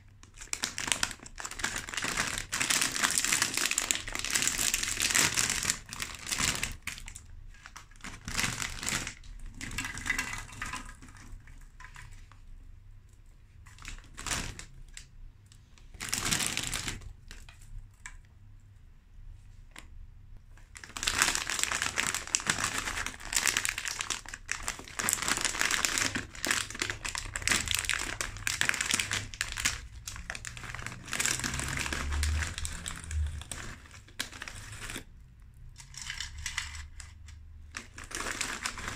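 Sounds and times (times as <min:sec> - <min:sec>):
plastic snack bags crinkling: 0:00.0 - 0:12.2, 0:13.7 - 0:15.1, 0:15.7 - 0:17.6, 0:20.6 - 0:38.9.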